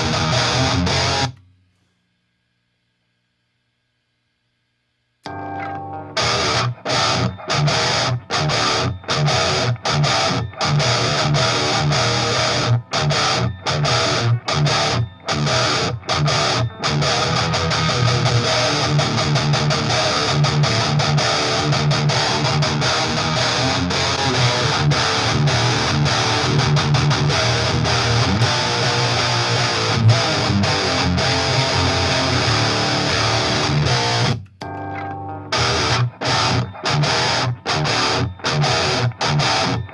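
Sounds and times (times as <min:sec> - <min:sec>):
distorted electric guitar riffing: 0:00.0 - 0:01.4, 0:05.2 - 0:39.9.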